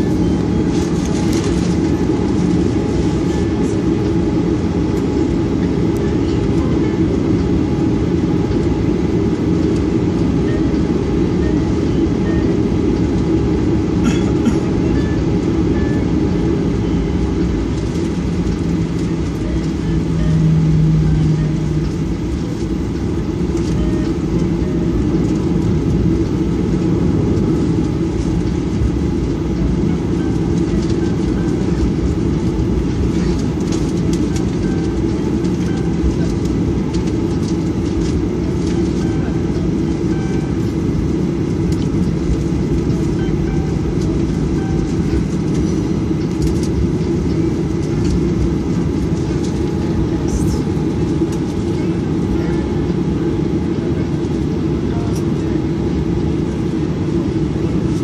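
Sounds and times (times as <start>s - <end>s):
jet engines rumbling from cabin: 0.0s - 58.0s.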